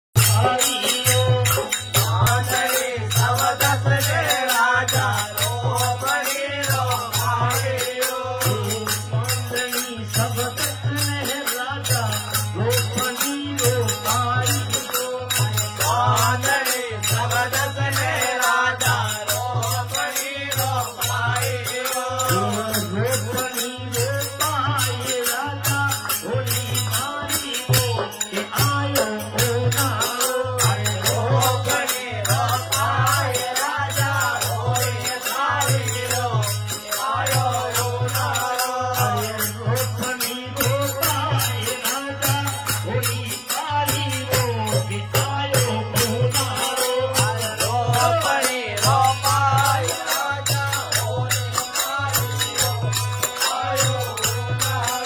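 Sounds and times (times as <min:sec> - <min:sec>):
drum beating even rhythm: 0:00.2 - 0:55.0
hand percussion clicking: 0:00.2 - 0:55.0
harmonium: 0:00.2 - 0:55.0
man singing: 0:00.2 - 0:55.0.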